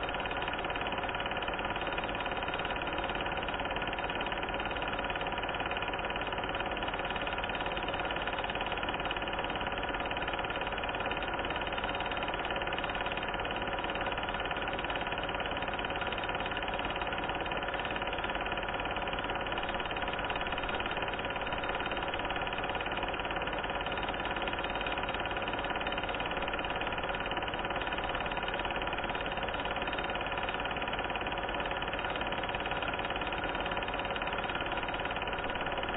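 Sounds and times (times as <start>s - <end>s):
film projector whirring: 0.0s - 35.9s.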